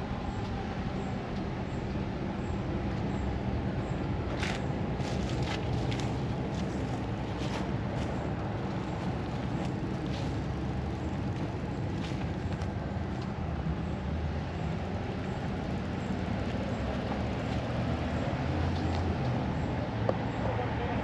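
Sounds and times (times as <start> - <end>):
low vehicle engine rumble: 0.0 - 21.0.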